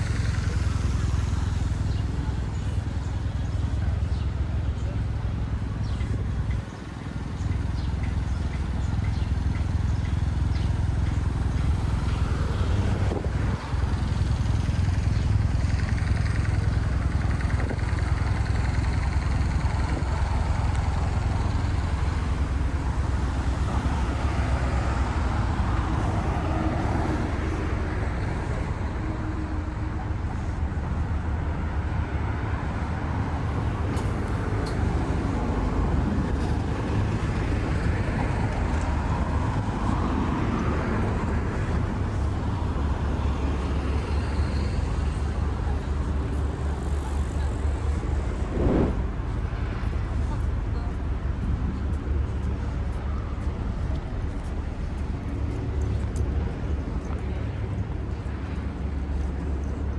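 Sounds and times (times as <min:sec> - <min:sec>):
low traffic rumble: 0:00.0 - 0:59.9.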